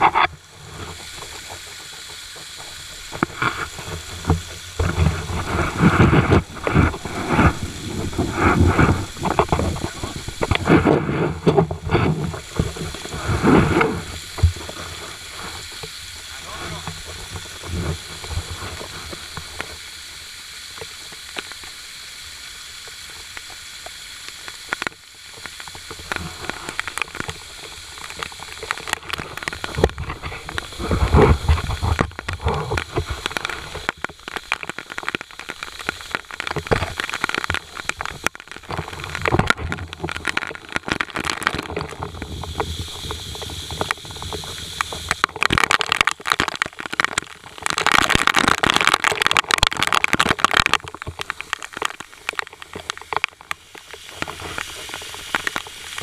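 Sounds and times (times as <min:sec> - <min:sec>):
water splashing and clattering: 0:00.0 - 0:19.8, 0:23.1 - 0:56.0
waterfall rushing: 0:00.0 - 0:56.0.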